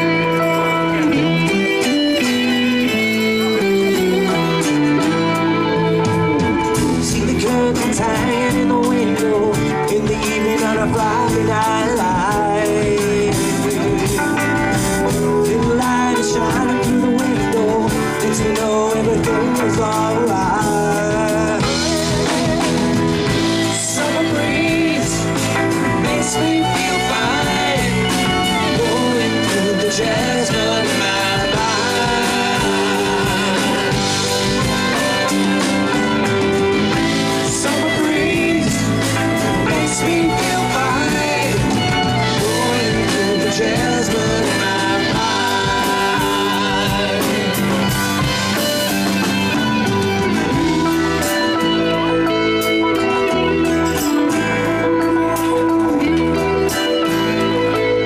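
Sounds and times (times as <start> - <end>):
bass guitar: 0.0 - 58.0
drum kit: 0.0 - 58.0
electric guitars: 0.0 - 58.0
keyboard: 0.0 - 58.0
man singing: 0.0 - 58.0.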